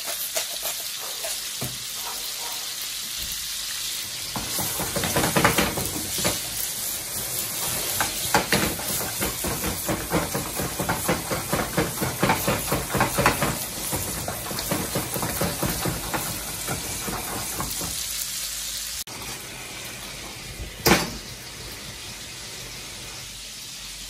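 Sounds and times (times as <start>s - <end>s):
meat and nuts frying in a pan: 0.0s - 24.0s.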